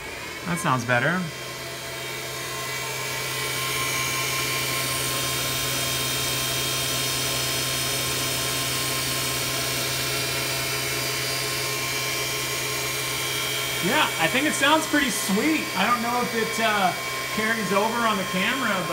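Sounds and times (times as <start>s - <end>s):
mill spindle humming and whining: 0.0s - 18.9s.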